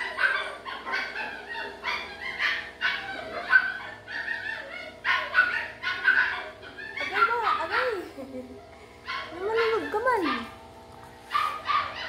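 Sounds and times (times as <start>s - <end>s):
dog barking: 0.0s - 10.6s, 11.2s - 12.0s.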